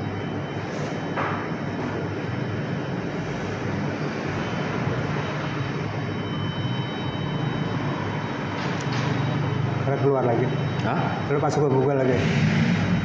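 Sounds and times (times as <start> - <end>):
mechanical drone with low hum: 0.0 - 13.0.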